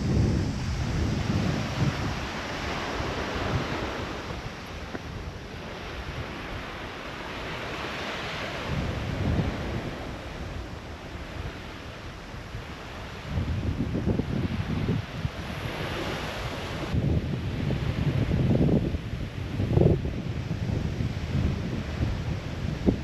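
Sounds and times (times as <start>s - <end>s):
sea waves washing on shore: 0.0s - 23.0s
wind buffeting microphone: 0.0s - 23.0s.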